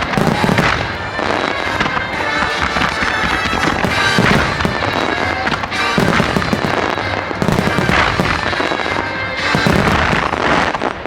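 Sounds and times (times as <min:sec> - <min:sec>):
fireworks bursting and crackling: 0:00.0 - 0:11.0
music over loudspeakers: 0:00.0 - 0:11.0.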